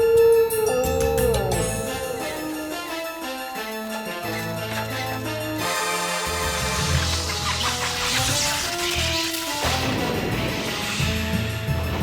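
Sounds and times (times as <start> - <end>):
theme music with low bass: 0.4 - 12.0.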